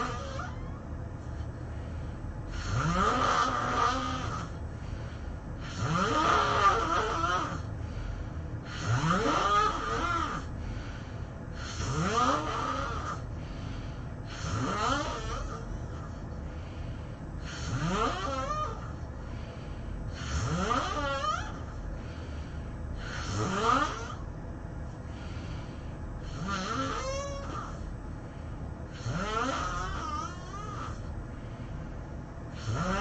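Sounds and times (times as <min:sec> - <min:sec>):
person snoring: 0:00.0 - 0:00.7, 0:02.4 - 0:24.3, 0:25.1 - 0:27.9, 0:28.9 - 0:31.1, 0:32.5 - 0:33.0.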